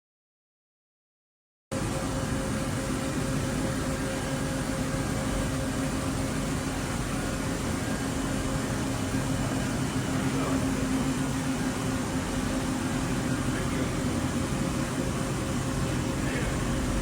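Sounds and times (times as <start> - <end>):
lathe humming and whirring: 1.8 - 17.0.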